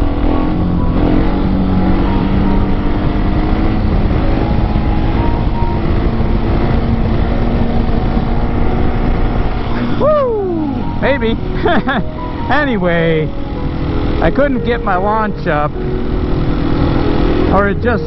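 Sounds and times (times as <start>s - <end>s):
motorcycle engine cruising: 0.0s - 18.0s
wind noise on microphone: 0.0s - 18.0s.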